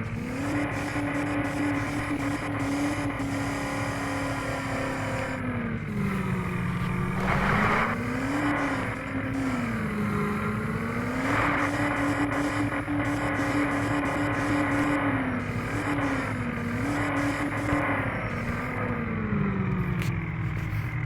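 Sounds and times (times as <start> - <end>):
vehicle engine revving under load: 0.0 - 21.0.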